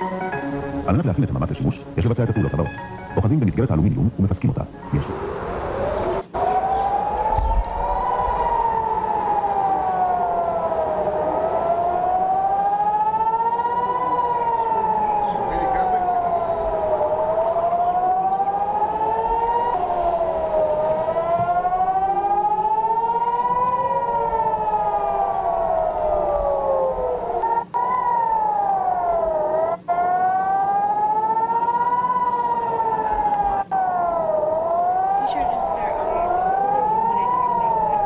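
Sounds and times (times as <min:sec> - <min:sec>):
warning siren wailing: 0:00.0 - 0:38.0.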